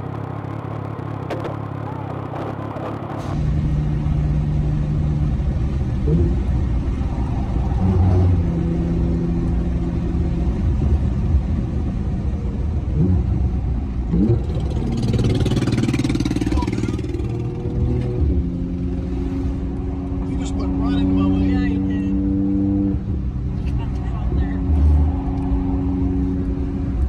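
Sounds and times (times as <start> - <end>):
road and wind rumble: 0.0 - 27.0
vehicle engine running: 0.0 - 27.0.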